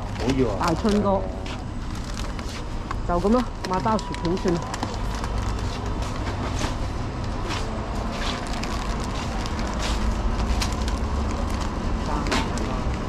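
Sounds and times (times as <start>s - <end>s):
plastic snack packets crinkling: 0.0s - 1.1s, 1.7s - 6.2s, 8.0s - 13.0s
steady low rumble: 0.0s - 13.0s.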